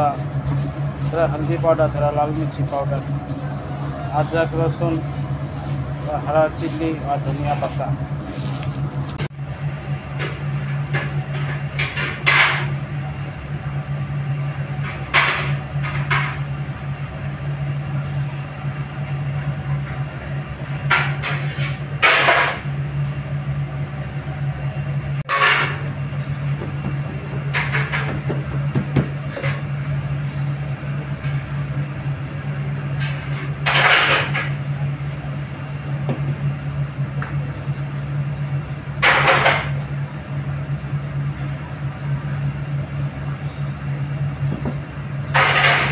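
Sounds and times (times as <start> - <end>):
low machine hum: 0.0 - 45.9.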